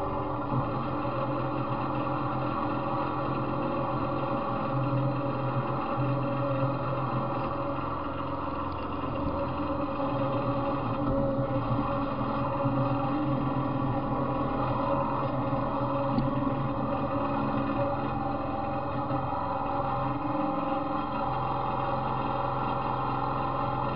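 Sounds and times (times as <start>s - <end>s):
riding mower engine idling: 0.1s - 23.9s.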